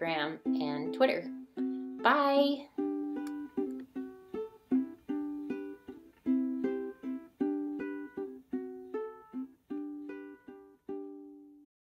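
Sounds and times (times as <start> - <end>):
strummed ukulele chords: 0.0 - 11.6.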